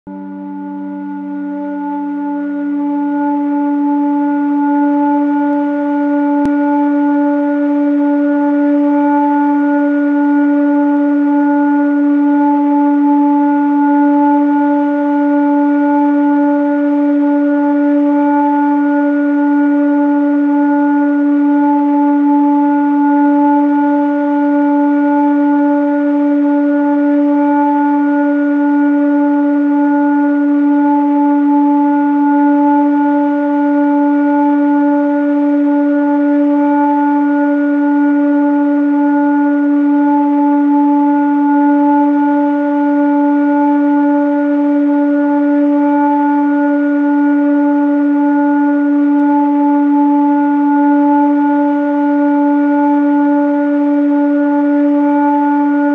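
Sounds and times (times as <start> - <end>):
sustained low drone tone: 0.1 - 55.9.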